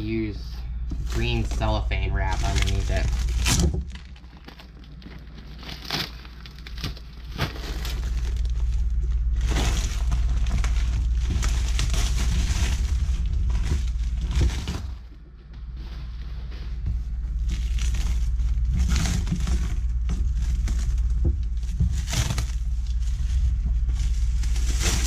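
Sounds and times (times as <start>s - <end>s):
plastic bag crinkling: 1.0s - 15.0s, 17.4s - 25.0s.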